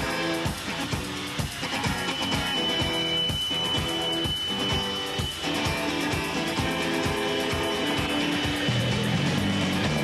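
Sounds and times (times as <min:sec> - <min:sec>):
bass drum beat: 0:00.0 - 0:10.0
guitar: 0:00.0 - 0:10.0
high held tone: 0:00.0 - 0:10.0.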